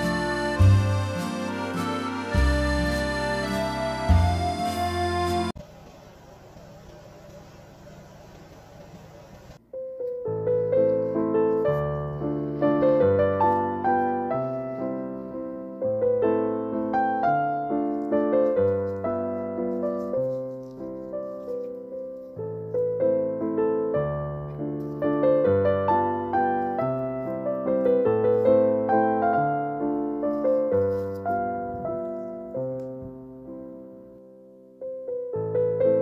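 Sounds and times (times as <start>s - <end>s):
gentle piano music: 0.0s - 5.6s, 9.6s - 36.0s.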